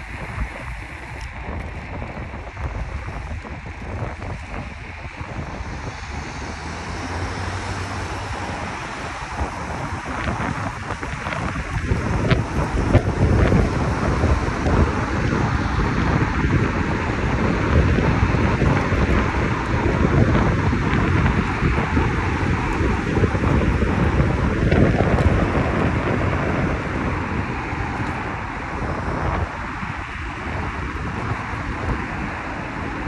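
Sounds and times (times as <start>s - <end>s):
vehicle noise: 0.0s - 33.0s
wind on microphone: 0.0s - 33.0s.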